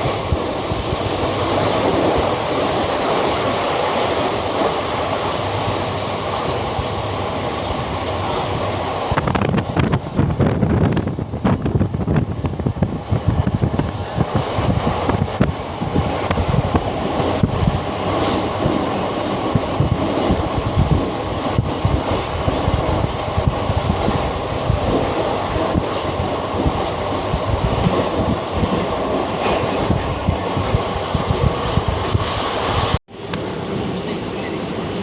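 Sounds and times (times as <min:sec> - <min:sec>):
train rumbling and rattling: 0:00.0 - 0:35.0.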